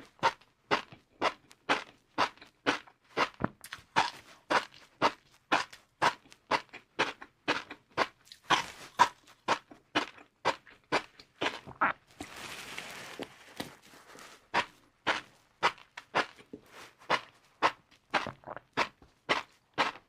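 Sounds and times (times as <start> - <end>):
chewing crunchy noodles: 0.0 - 12.4, 13.2 - 20.0.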